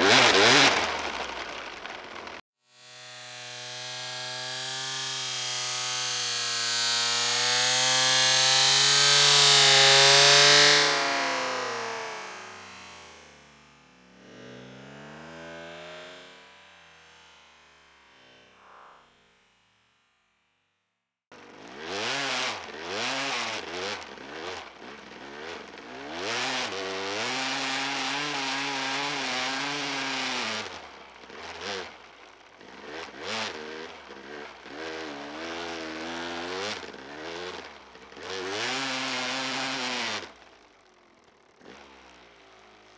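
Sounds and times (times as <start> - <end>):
two-stroke engine revving hard: 0.0 - 18.4, 21.3 - 42.9.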